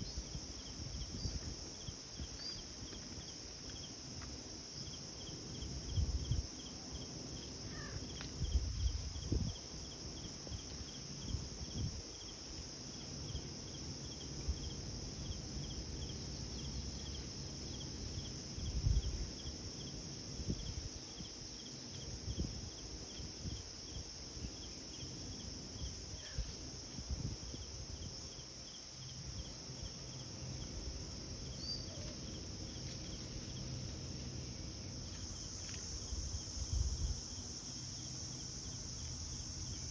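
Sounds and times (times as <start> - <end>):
insects trilling: 0.0 - 39.9
regular insect chirp: 0.0 - 39.9.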